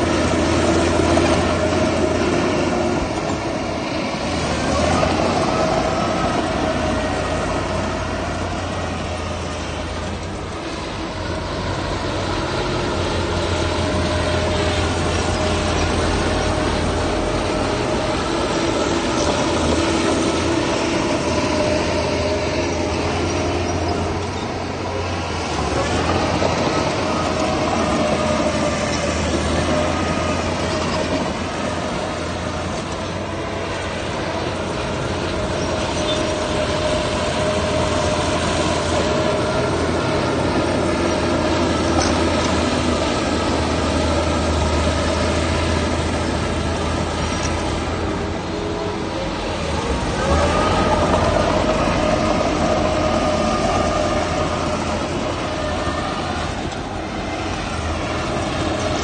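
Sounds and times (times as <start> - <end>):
diesel engine rumble: 0.0 - 59.0
machinery whine: 0.0 - 59.0.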